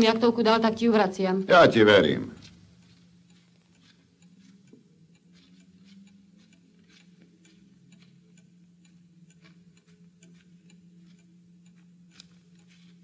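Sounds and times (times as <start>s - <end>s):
clock ticking: 0.0s - 13.0s
low steady hum: 0.0s - 13.0s.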